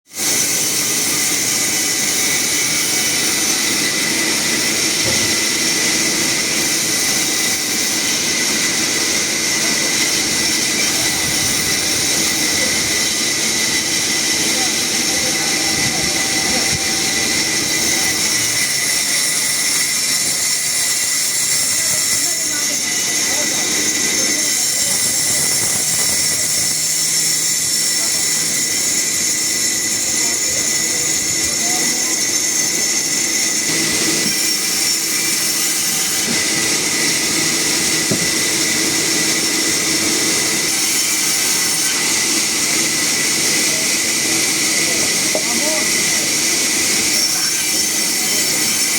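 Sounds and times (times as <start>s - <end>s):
sawmill machinery rushing: 0.1s - 48.9s
high machine whine: 0.2s - 48.9s.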